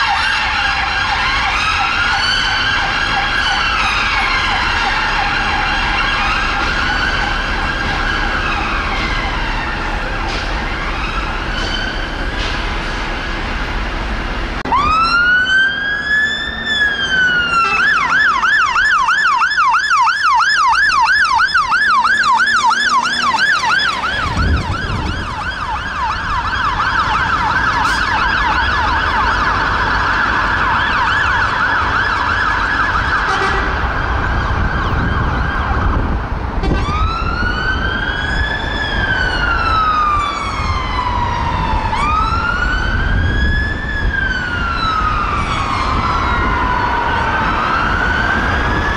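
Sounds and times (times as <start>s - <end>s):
emergency vehicle sirens: 0.0s - 48.9s
heavy engine rumble: 0.3s - 18.8s, 20.9s - 48.9s.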